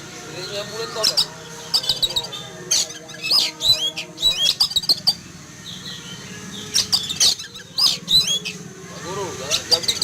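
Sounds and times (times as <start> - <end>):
bird whistling calls: 0.5 - 8.6.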